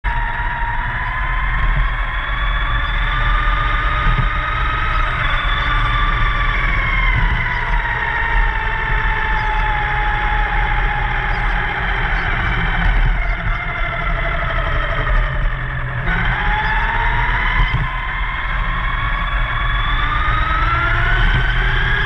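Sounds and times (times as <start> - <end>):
low rumble: 0.0 - 22.0
model car motor whine: 0.0 - 22.0.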